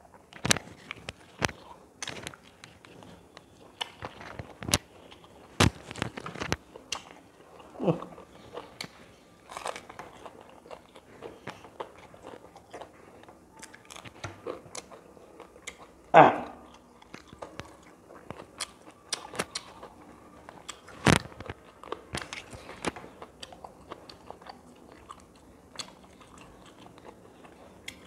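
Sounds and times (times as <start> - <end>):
crunchy biting and chewing: 0.4 - 28.0.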